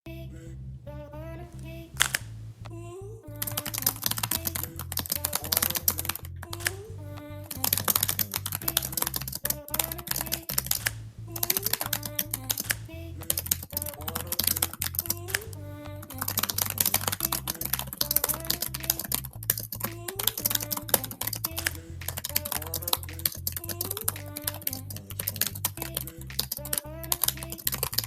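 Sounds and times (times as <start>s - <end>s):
looping background music: 3.3s - 28.0s
rapid keyboard clicking: 3.4s - 6.8s, 7.5s - 15.5s, 16.2s - 28.0s.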